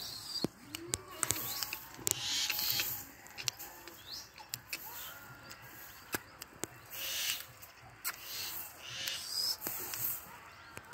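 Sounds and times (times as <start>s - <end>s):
parakeet chirping and chattering: 0.0s - 10.9s
sharp clicks: 0.0s - 10.9s.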